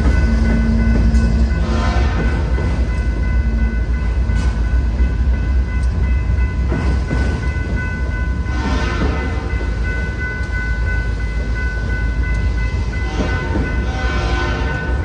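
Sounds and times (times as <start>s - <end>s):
freight train rumble: 0.0s - 15.0s
train clanks: 0.0s - 15.0s.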